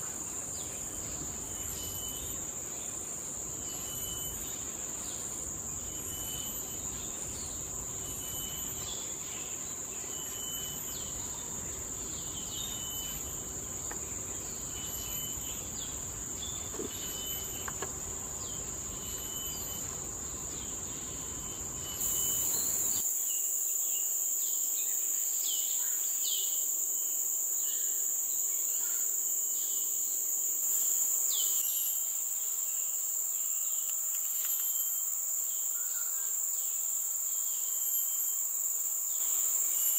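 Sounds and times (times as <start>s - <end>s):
high-pitched insect drone: 0.0s - 39.9s
pulsing insect chirp: 0.0s - 39.9s
short insect chirps: 0.0s - 39.9s.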